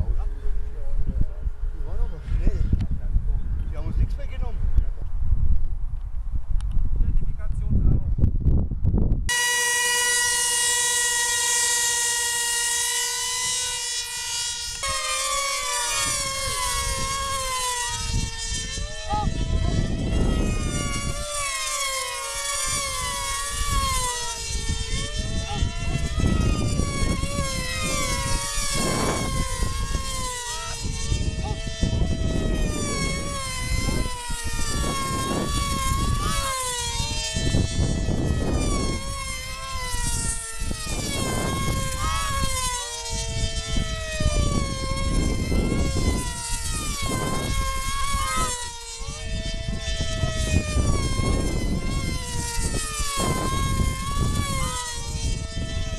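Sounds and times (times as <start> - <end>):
model plane engines screaming: 0.0 - 4.9, 9.3 - 55.9
wind rumbling on microphone: 0.0 - 55.9.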